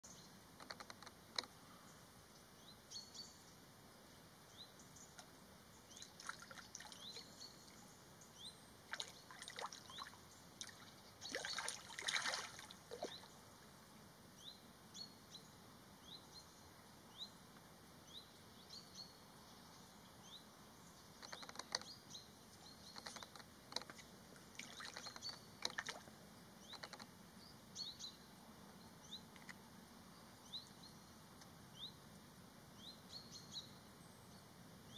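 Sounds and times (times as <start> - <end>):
faint steady hiss: 0.0 - 34.9.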